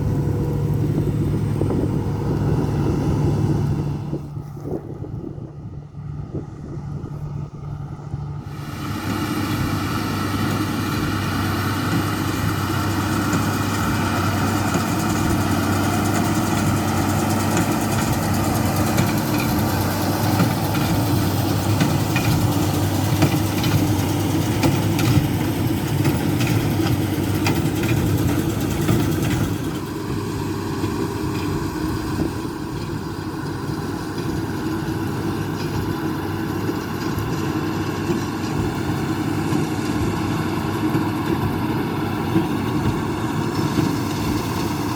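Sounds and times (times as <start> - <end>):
diesel engines running: 0.0 - 44.9
low engine drone: 0.0 - 44.9.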